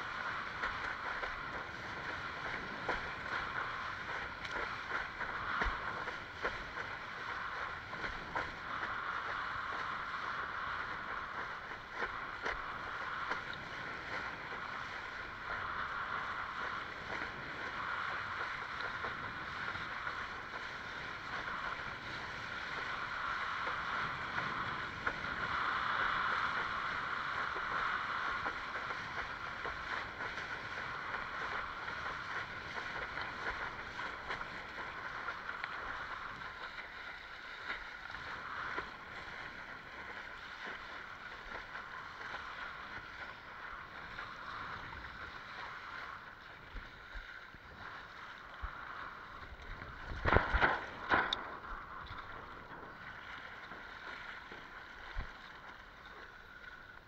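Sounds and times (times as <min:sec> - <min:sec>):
water rushing along a board hull: 0:00.0 - 0:57.0.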